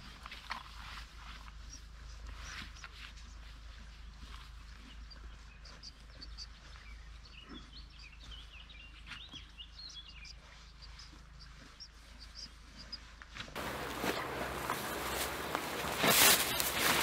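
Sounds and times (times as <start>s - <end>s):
small birds twittering: 1.5s - 17.0s.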